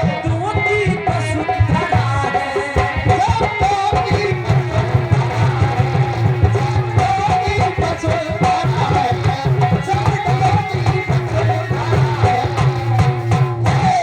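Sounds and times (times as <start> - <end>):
hand drum rhythm: 0.0 - 14.0.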